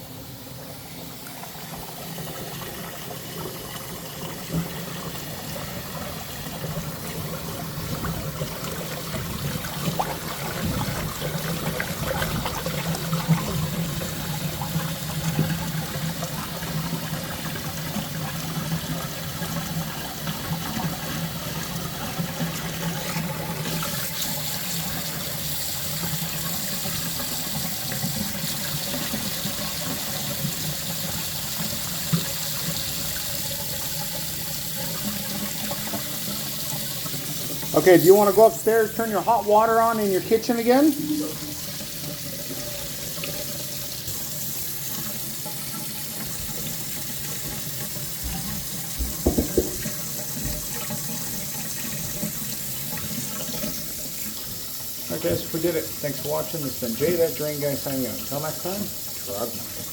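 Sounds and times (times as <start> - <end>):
water flowing down drain: 0.3 - 59.9.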